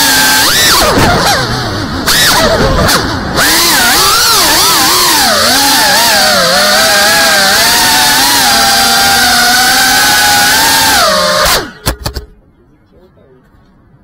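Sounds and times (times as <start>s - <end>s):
drone propellers whining: 0.0s - 12.5s.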